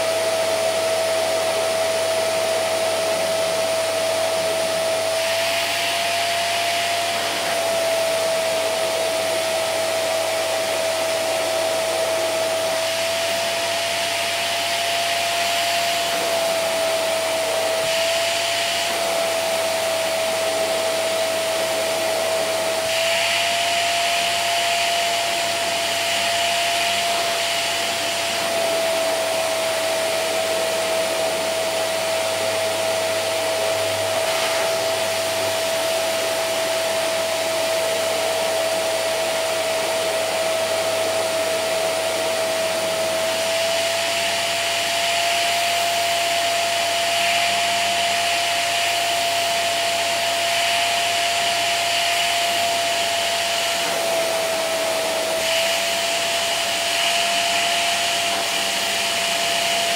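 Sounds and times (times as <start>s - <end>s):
vacuum cleaner running over carpet: 0.0s - 59.9s.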